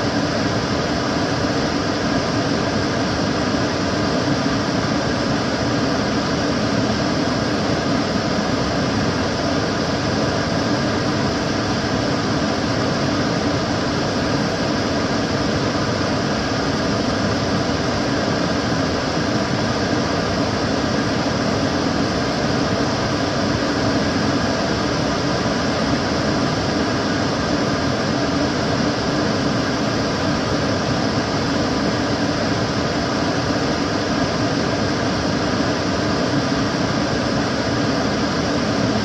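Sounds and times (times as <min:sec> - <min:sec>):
extractor fan running: 0:00.0 - 0:39.0.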